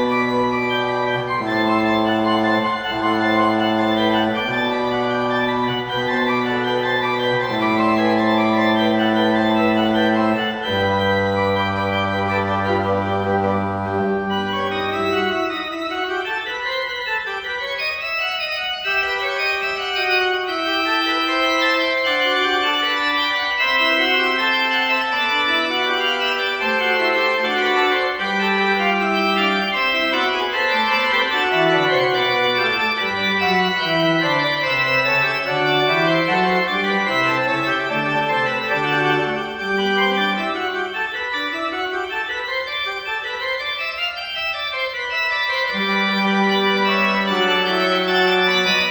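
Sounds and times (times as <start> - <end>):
church organ playing: 0.0 - 48.9.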